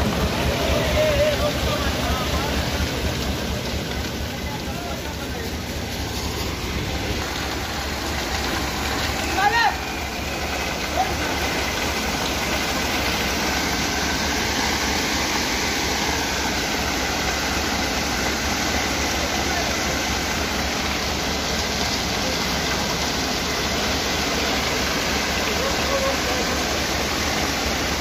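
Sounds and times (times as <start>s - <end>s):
concrete rushing down chute: 0.0s - 28.0s
truck engine running: 0.0s - 28.0s.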